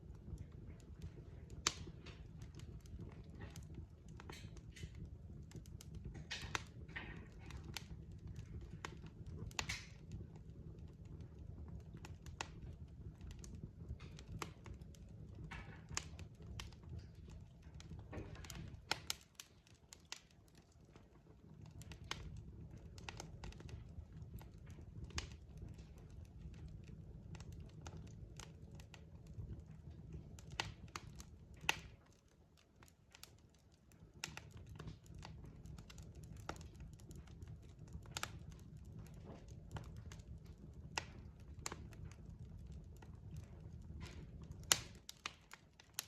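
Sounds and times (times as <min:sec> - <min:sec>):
low rumble of flames: 0:00.0 - 0:46.0
wood fire crackling and popping: 0:00.0 - 0:46.0.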